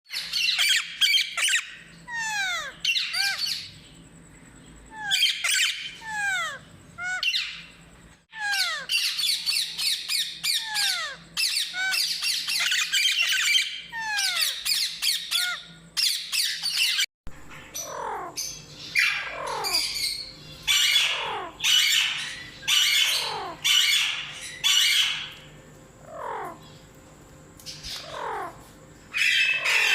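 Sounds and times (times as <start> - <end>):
parrot squawking: 0.2 - 3.7, 4.9 - 7.6, 8.3 - 17.1, 17.7 - 25.3, 27.9 - 29.9.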